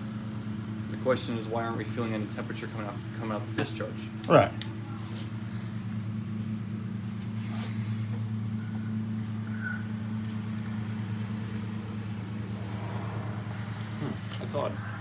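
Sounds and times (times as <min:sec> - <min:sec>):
air conditioner compressor humming: 0:00.0 - 0:15.0.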